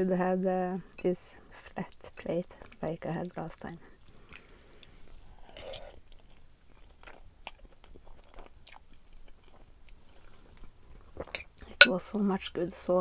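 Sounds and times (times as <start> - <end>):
quiet wet chewing: 1.5 - 11.9.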